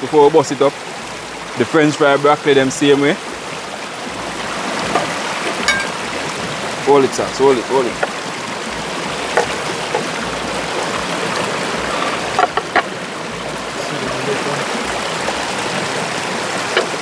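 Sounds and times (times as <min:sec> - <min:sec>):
river flowing over rocks: 0:00.0 - 0:17.0.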